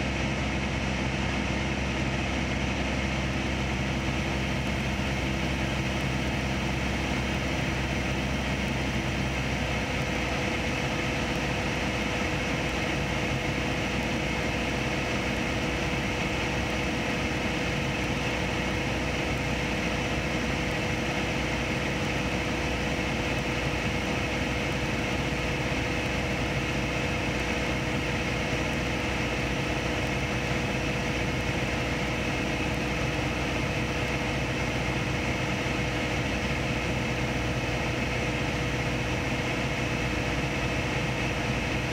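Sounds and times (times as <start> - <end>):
small plane engine cabin drone: 0.0 - 41.9.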